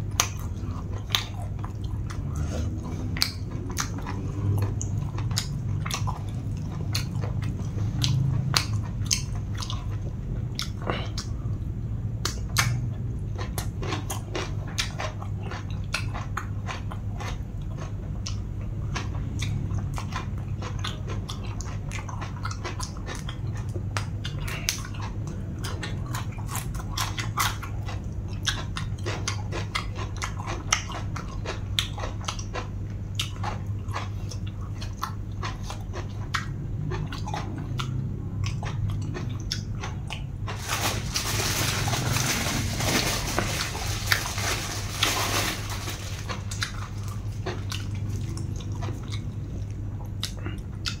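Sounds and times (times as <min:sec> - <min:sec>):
chewing: 0:00.1 - 0:51.0.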